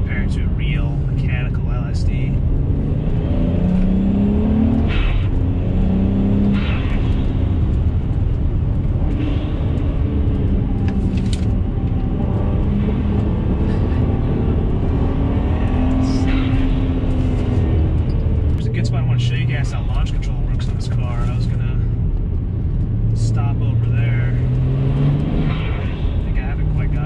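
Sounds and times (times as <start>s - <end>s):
car engine revving: 0.0s - 27.0s
road and tyre noise: 0.0s - 27.0s.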